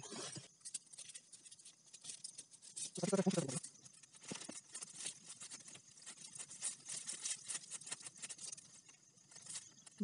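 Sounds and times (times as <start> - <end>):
plastic ribbon crinkling: 0.6 - 10.0.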